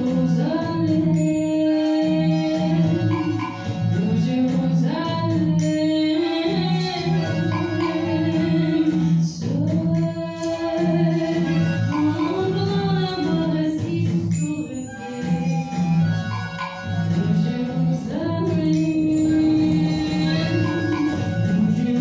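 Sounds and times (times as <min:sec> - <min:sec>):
person singing into a microphone: 0:00.0 - 0:16.3, 0:17.0 - 0:22.0
small cabaret band: 0:00.0 - 0:22.0.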